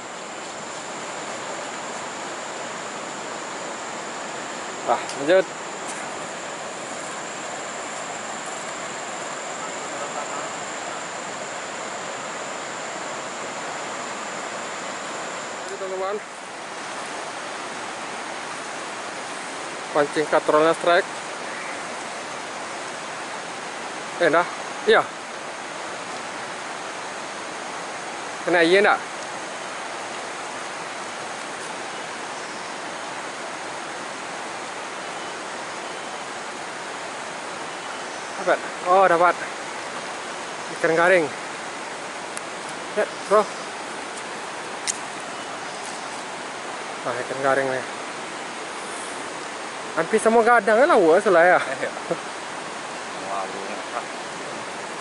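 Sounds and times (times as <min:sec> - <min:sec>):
high-pitched insect buzz: 0:00.0 - 0:33.2, 0:34.8 - 0:46.6
river flowing over rocks: 0:00.0 - 0:55.0.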